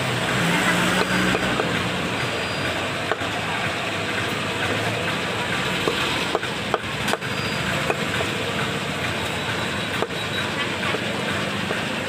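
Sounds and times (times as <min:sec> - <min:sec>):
street noise hum: 0:00.0 - 0:12.0.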